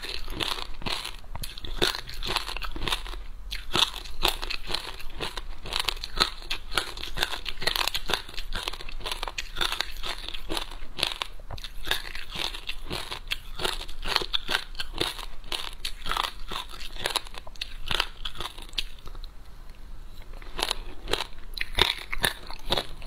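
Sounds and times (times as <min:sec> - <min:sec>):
crunchy chewing: 0:00.0 - 0:23.0.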